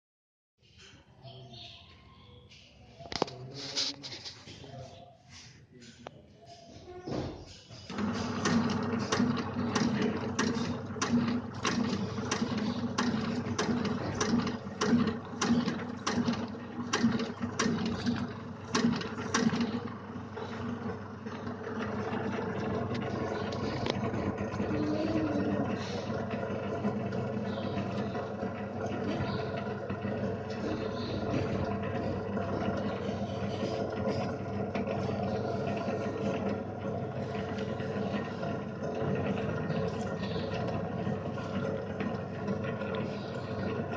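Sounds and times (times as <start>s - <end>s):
packing machine motor hum: 7.3s - 43.9s
machine clacking: 7.9s - 43.9s.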